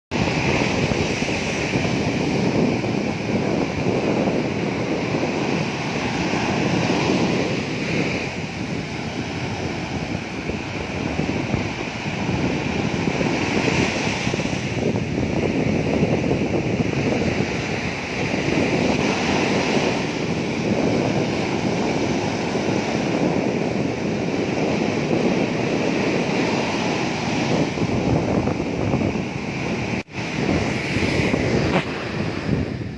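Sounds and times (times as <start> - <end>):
waves breaking on beach: 0.1 - 32.9.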